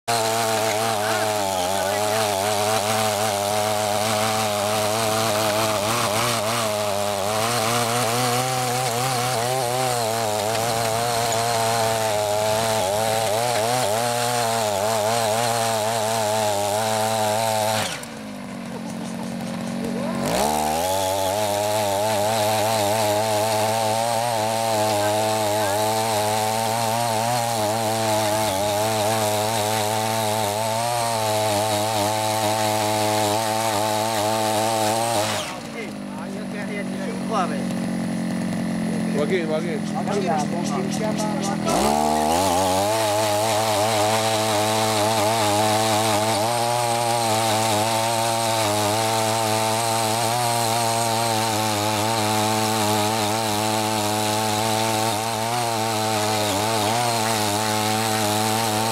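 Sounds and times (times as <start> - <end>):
tiller petrol engine running: 0.0 - 58.9
tines churning soil: 0.0 - 58.9.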